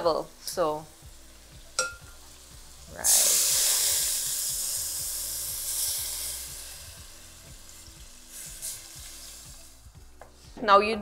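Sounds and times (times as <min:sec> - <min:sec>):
water splashing and sizzling in pot: 0:00.0 - 0:10.6.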